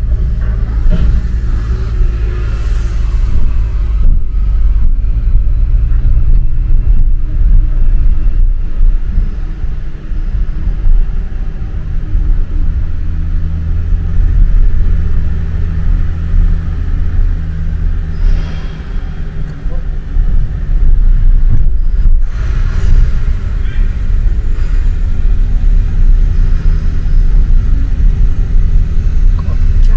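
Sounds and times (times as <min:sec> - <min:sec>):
car engine and tyres rumbling: 0:00.0 - 0:29.9
low hum: 0:00.0 - 0:29.9.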